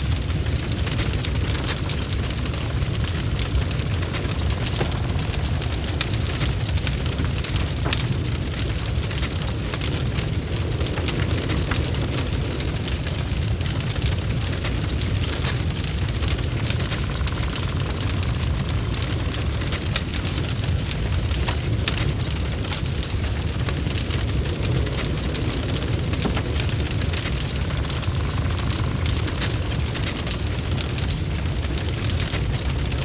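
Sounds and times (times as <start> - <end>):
bonfire crackling: 0.0 - 33.0.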